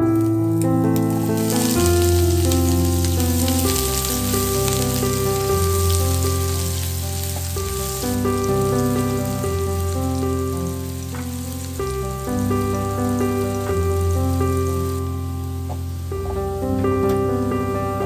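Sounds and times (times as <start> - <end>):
keyboard background music: 0.0 - 18.0
shallots sizzling in oil: 0.1 - 18.0.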